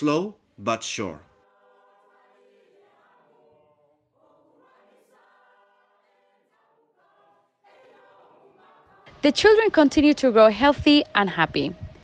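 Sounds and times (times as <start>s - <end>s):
faint choir singing: 0.0s - 12.0s.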